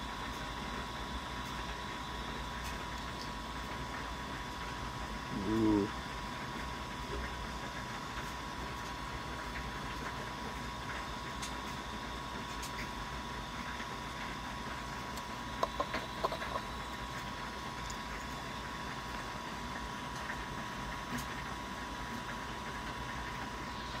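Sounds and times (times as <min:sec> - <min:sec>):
printer fans humming: 0:00.0 - 0:24.0.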